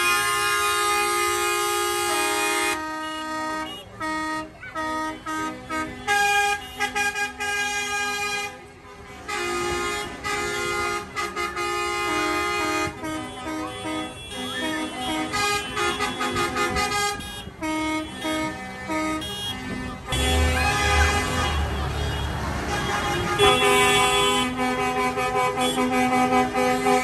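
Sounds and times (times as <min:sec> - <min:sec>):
tractor horns honking: 0:00.0 - 0:27.0.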